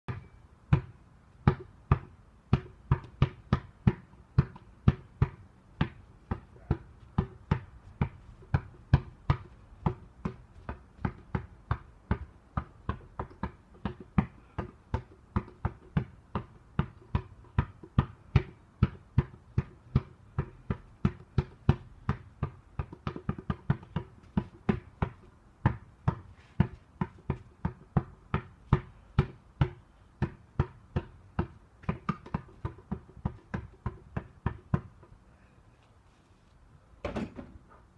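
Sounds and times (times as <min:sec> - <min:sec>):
basketball bouncing: 0:00.1 - 0:35.1.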